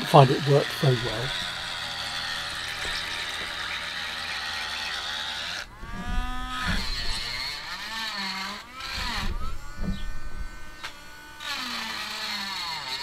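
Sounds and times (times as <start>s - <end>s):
rotary tool whining: 0.0s - 13.0s.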